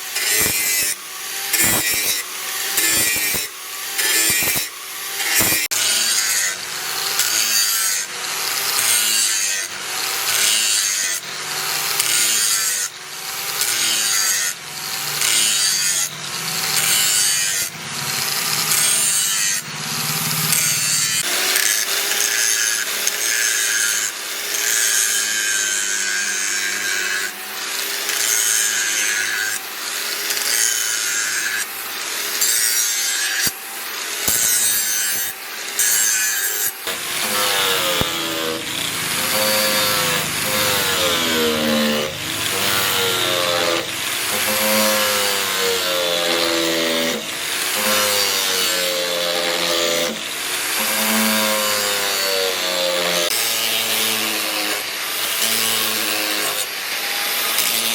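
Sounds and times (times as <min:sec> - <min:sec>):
hand tool sawing strokes: 0:00.0 - 0:57.9.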